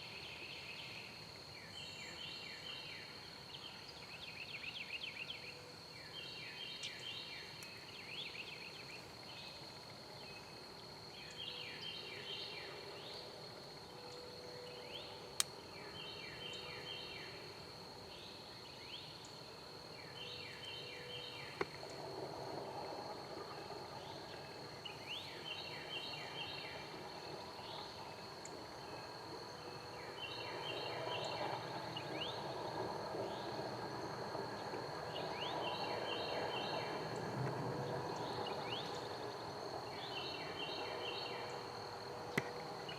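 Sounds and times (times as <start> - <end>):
songbirds singing: 0.0 - 22.0, 23.0 - 42.9
high insect-like whine: 0.0 - 42.9.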